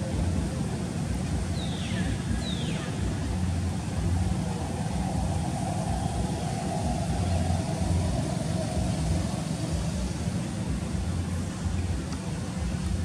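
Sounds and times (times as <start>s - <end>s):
engine humming: 0.0s - 13.0s
higher drone: 0.0s - 13.0s.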